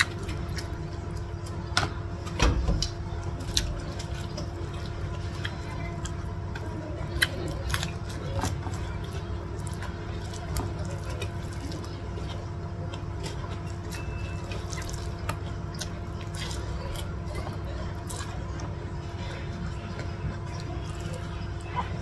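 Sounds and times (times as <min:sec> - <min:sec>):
chewing: 0:00.0 - 0:01.8, 0:02.8 - 0:22.0
wet eating clicks and smacks: 0:00.0 - 0:01.9, 0:02.8 - 0:18.8
steady low hum: 0:00.0 - 0:22.0.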